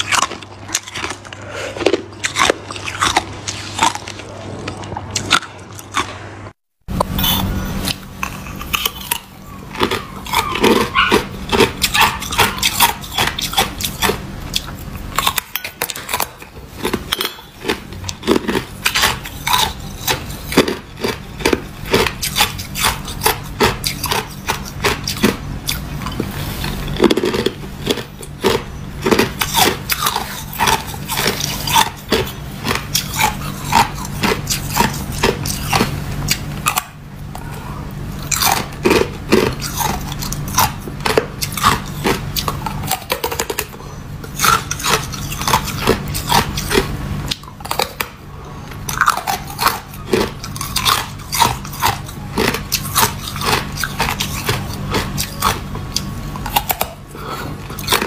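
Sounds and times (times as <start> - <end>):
ice crunching while chewed: 0.0 - 6.3, 6.9 - 58.0.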